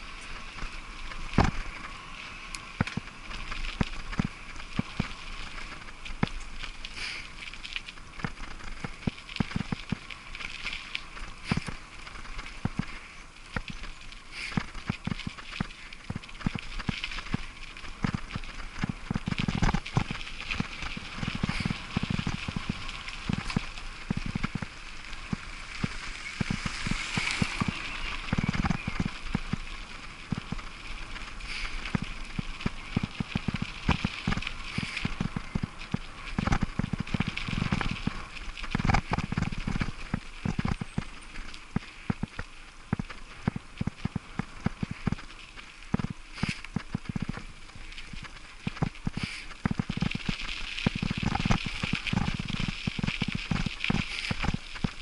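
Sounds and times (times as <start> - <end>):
bike rattling and knocking: 0.0 - 2.0, 2.7 - 55.0
bicycle tyres crunching on gravel: 0.0 - 55.0
wind noise: 0.0 - 55.0.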